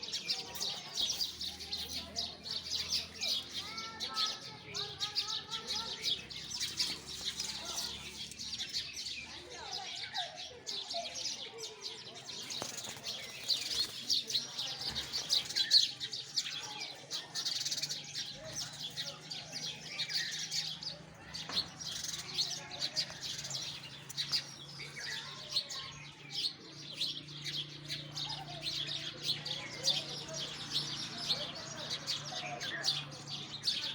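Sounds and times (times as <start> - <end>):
sparrows chirping: 0.0 - 33.9.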